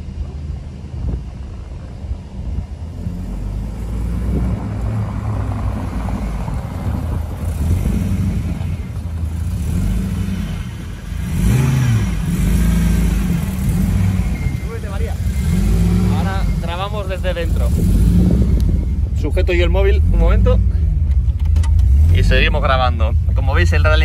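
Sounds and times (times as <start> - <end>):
car engine driving over cobblestones: 0.0 - 24.0.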